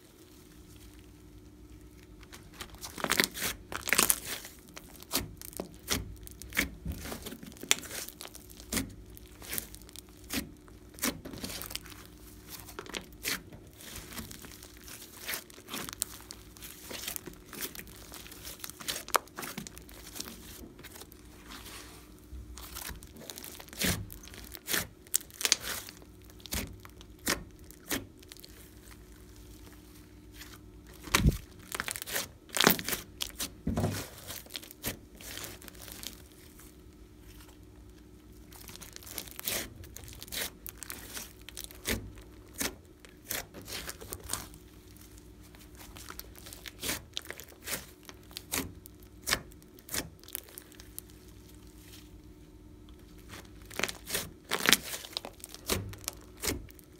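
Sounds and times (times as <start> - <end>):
hands squishing slime: 0.3 - 56.9.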